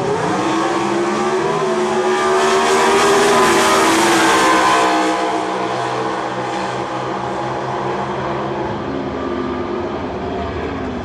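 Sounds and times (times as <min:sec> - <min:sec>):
drag racing cars accelerating: 0:00.0 - 0:11.0.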